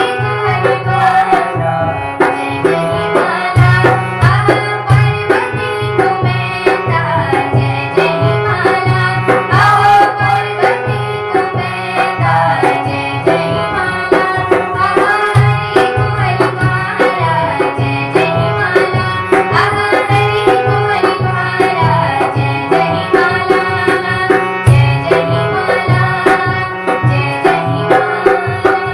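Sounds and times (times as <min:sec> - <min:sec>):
rhythmic hand drum beat: 0:00.0 - 0:28.9.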